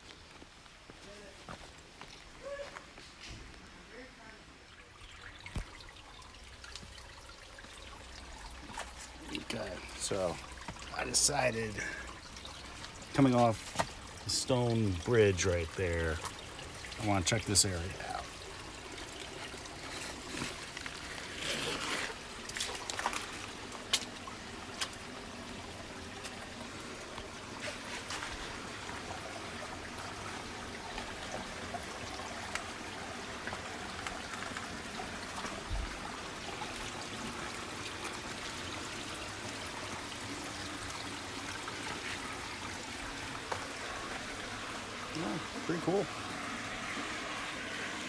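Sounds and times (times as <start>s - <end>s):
stream trickling over rocks: 0.0s - 48.0s.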